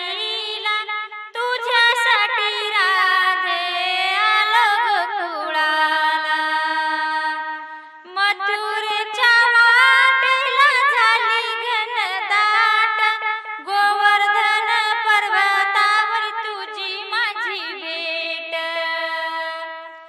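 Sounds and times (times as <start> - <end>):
woman singing: 0.0 - 20.0.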